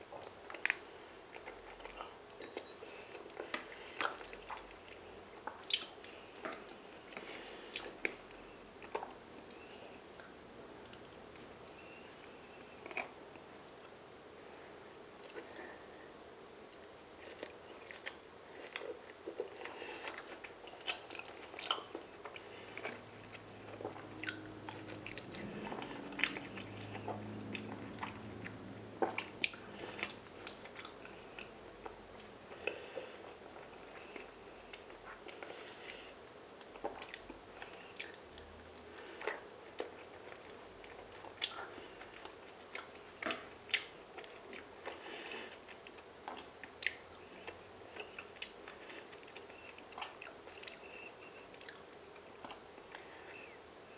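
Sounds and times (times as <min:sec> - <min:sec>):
wet chewing: 0:00.2 - 0:13.2, 0:17.1 - 0:35.9, 0:36.6 - 0:53.1.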